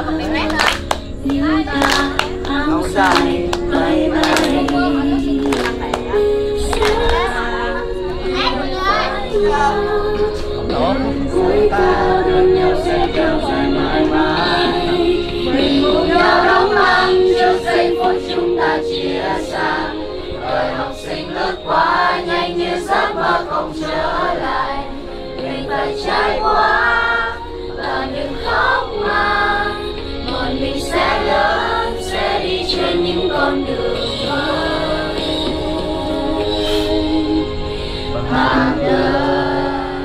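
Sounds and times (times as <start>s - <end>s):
music: 0.0s - 40.0s
several voices singing: 0.0s - 40.0s.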